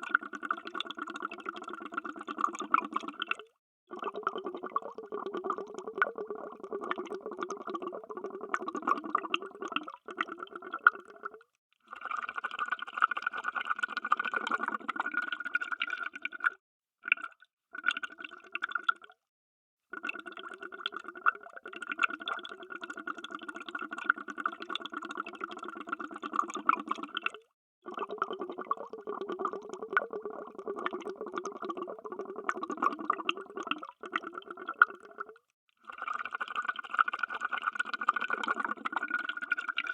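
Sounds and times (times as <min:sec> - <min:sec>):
underwater bubbling and popping: 0:00.0 - 0:19.3, 0:19.9 - 0:39.9.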